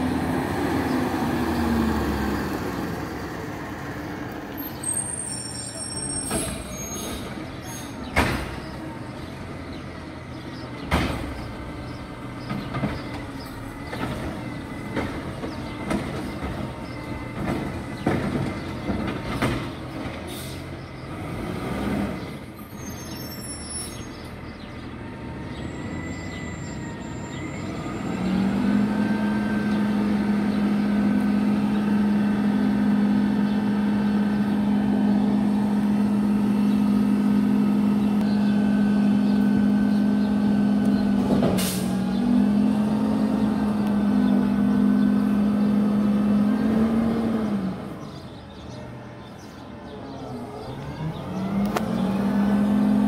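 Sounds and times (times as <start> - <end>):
garbage truck engine droning: 0.0 - 53.0.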